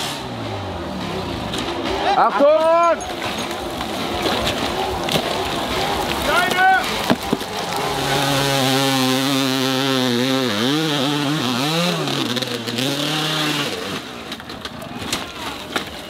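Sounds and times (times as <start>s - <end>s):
dirt bike engine revving: 0.0s - 14.7s
bike crashing: 0.9s - 16.0s.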